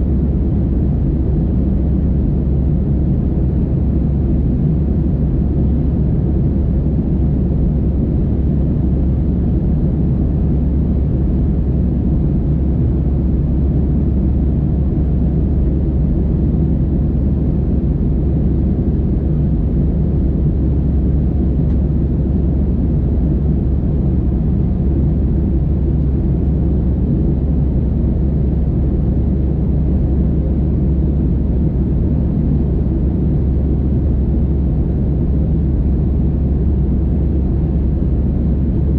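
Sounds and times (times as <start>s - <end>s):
aircraft cabin engine drone: 0.0s - 38.9s.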